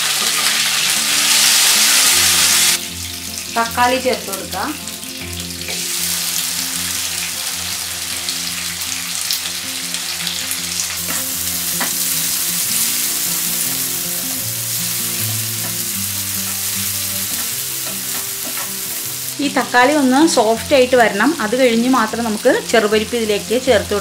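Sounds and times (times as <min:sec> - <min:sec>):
hot oil sizzling in a frying pan: 0:00.0 - 0:24.0.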